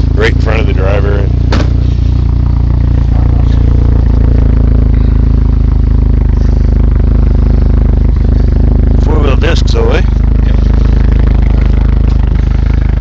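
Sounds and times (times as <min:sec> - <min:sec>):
car engine knocking clatter: 0:00.0 - 0:13.0.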